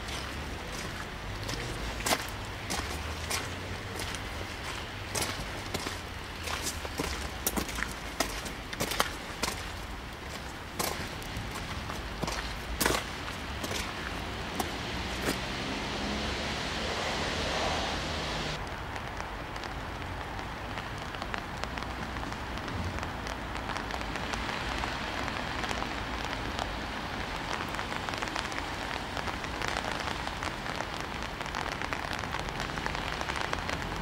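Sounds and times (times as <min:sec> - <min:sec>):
rain pattering on surfaces: 0:00.0 - 0:34.0.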